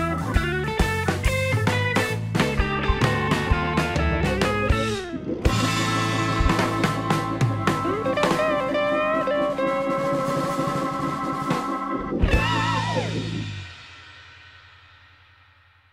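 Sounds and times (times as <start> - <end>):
rock music with guitar and drums: 0.0 - 14.6.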